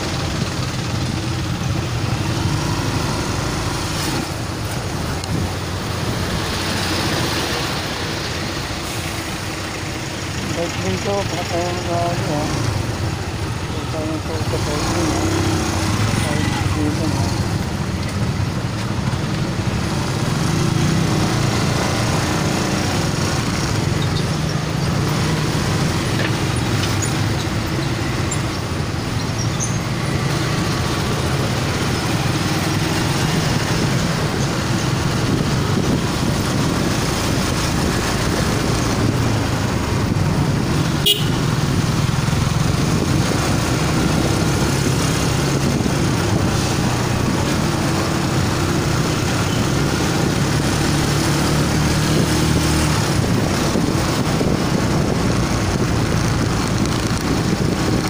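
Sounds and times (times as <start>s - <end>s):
motorcycle engine running: 0.0s - 58.0s
traffic and road noise: 0.0s - 58.0s.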